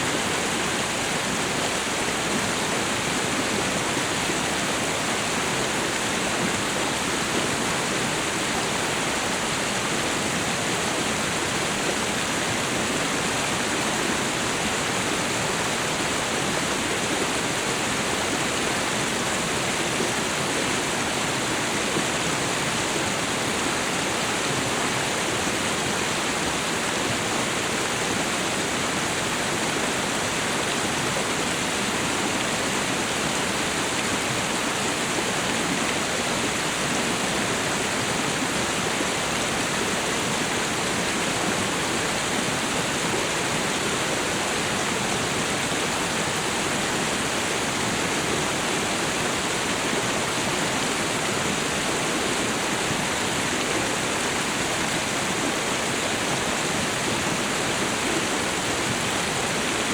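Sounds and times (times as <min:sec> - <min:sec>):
waterfall and river rushing: 0:00.0 - 0:59.9.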